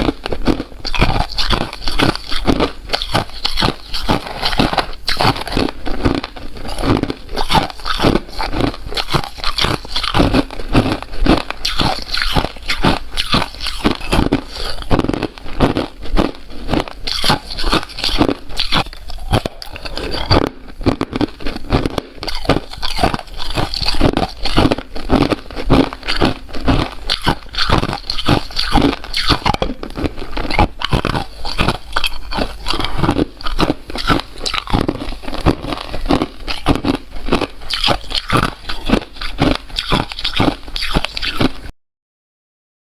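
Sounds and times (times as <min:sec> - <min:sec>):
ice crunching while chewed: 0:00.0 - 0:41.7.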